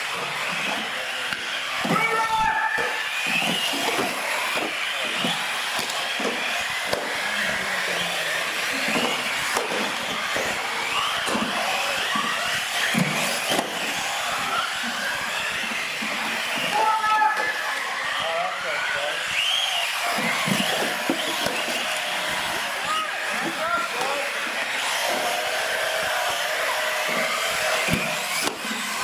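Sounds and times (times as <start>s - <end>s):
toy truck motors whining: 0.0s - 29.0s.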